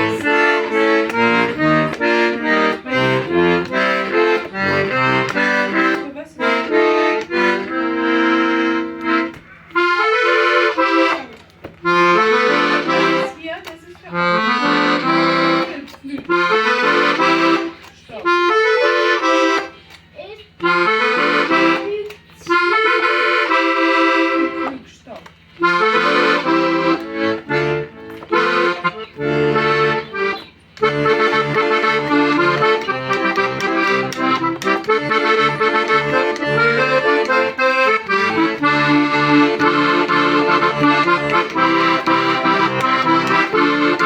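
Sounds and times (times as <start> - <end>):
accordion playing: 0.0 - 44.0.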